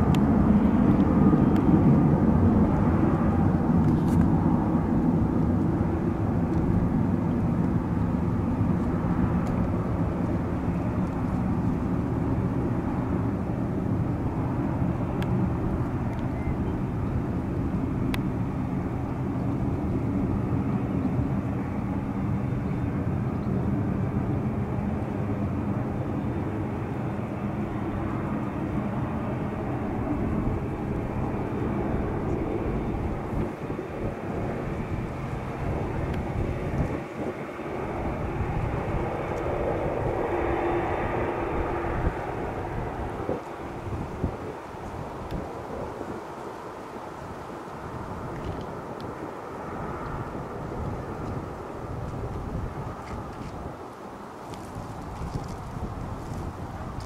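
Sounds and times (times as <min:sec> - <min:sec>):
jet engines: 0:00.0 - 0:57.0.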